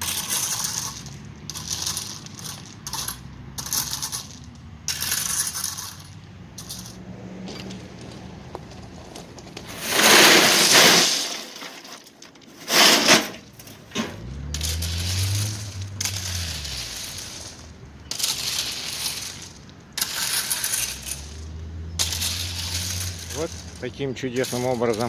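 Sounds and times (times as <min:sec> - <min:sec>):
stones clattering: 0:00.0 - 0:25.0.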